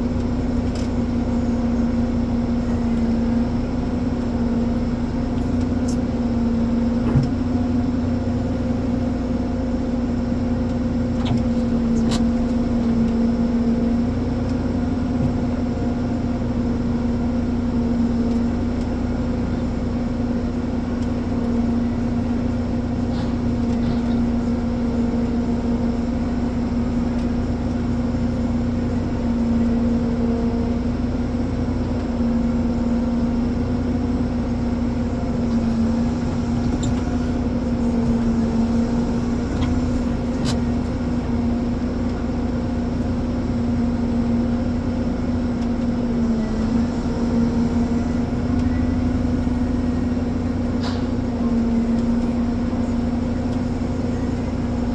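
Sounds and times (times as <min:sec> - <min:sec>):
diesel engine humming: 0:00.0 - 0:54.9.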